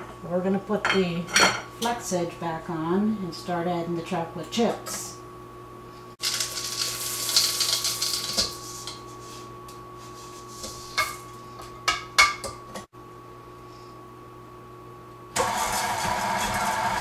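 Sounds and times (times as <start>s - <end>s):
faint steady hum: 0.0s - 15.4s.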